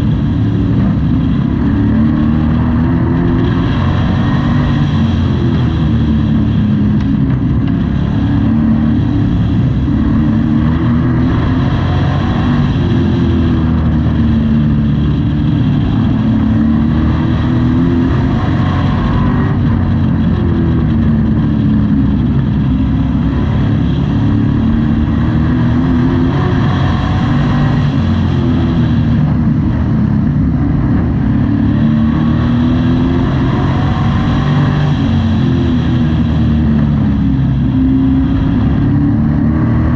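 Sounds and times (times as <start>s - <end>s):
race truck engine: 0.0s - 39.9s.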